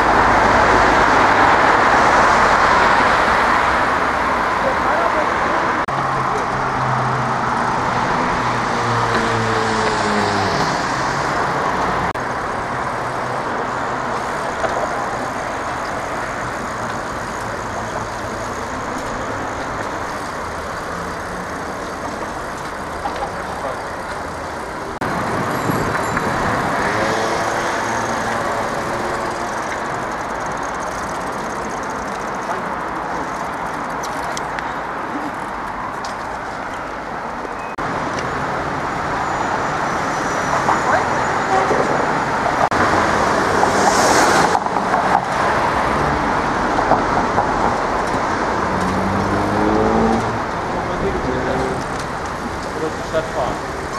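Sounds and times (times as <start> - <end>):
city traffic noise: 0.0 - 53.9.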